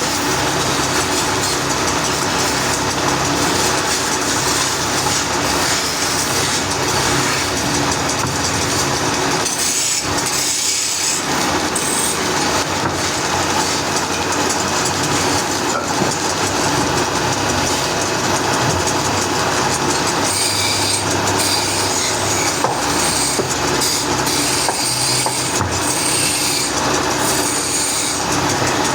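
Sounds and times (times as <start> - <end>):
wood being cut by machine: 0.0 - 28.9.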